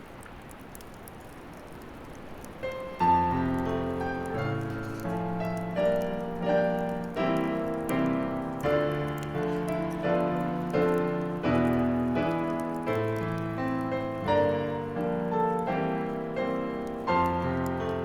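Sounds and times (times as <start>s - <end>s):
gentle solo piano: 2.6s - 18.0s.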